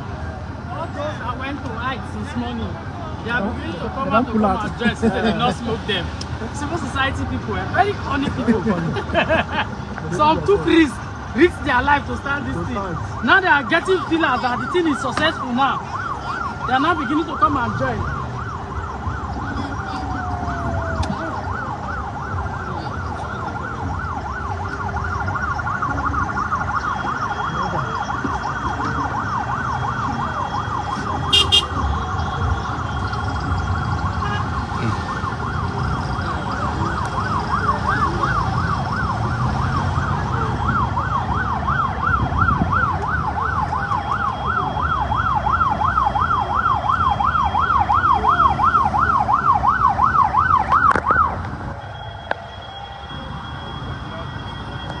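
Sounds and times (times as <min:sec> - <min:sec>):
traffic rumble: 0:00.0 - 0:55.0
police siren yelping: 0:07.9 - 0:55.0.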